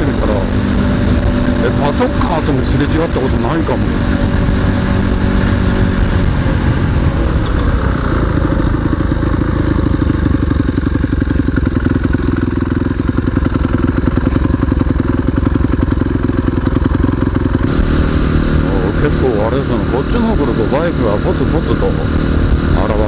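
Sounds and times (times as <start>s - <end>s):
off-road motorcycle engine: 0.0s - 23.0s.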